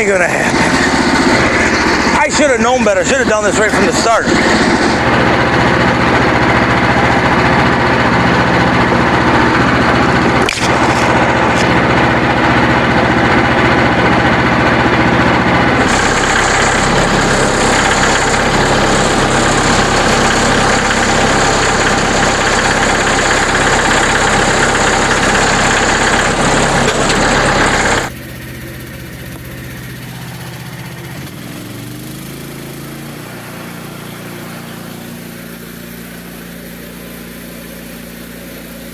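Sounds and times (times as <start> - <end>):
engine running loudly: 0.0 - 38.9.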